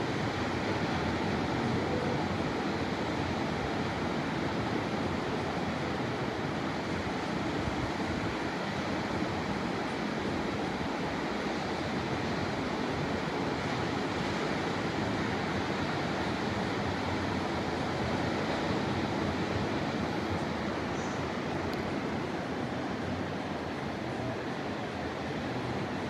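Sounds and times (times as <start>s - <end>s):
ocean surf washing ashore: 0.0s - 26.0s.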